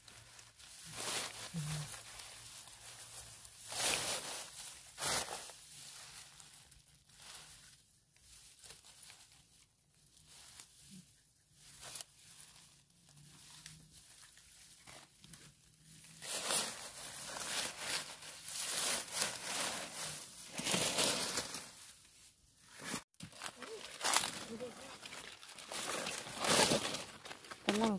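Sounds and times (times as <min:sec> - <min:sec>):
dry leaves rustling and crackling: 0:00.0 - 0:22.3, 0:23.2 - 0:27.9.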